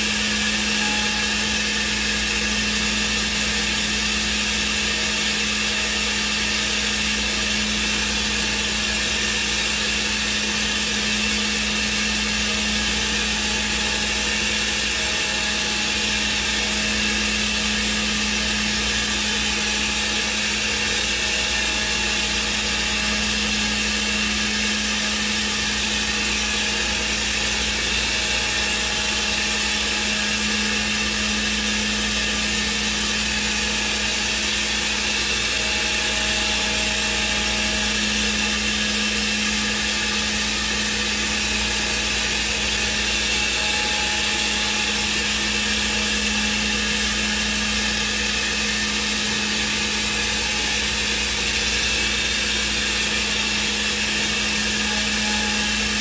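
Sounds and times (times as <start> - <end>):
cnc router running: 0.0 - 56.0.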